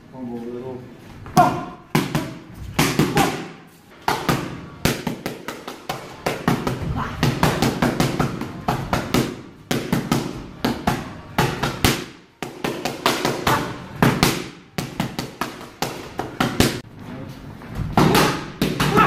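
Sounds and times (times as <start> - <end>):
boxing gloves hitting pads: 1.4 - 16.8, 17.8 - 19.0.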